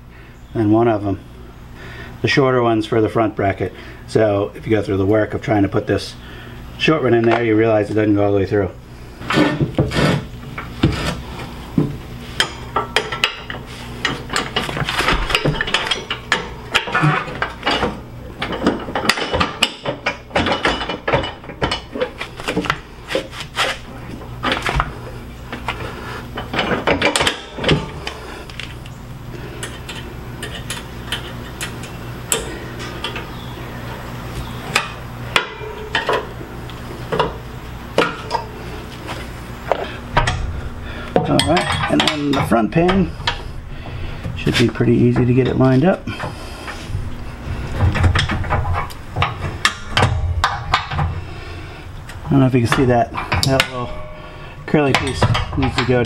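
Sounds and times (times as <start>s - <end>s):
low hum: 7.8s - 56.0s.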